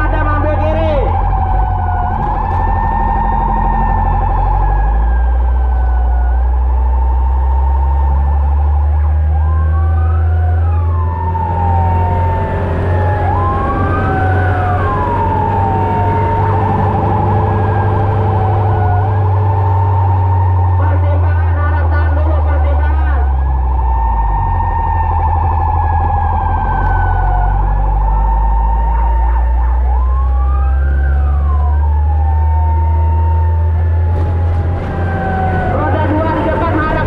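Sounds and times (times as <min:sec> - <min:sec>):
fire truck siren wailing: 0:00.0 - 0:37.0
truck engine drone: 0:00.0 - 0:37.0
second siren tone sweeping: 0:00.9 - 0:37.0.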